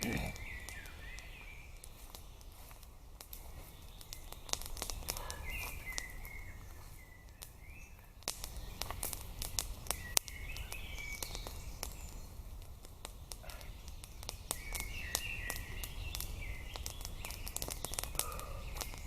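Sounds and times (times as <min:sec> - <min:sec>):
sharp crackles and snaps: 0:00.0 - 0:19.0
small birds chirping: 0:00.0 - 0:19.0.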